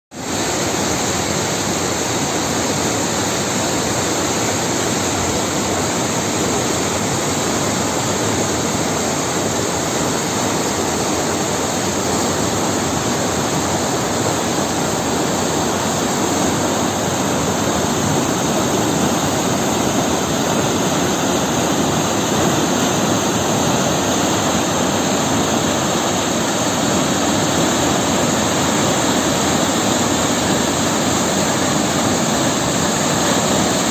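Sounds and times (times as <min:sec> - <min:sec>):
water rushing over weir: 0:00.2 - 0:33.9.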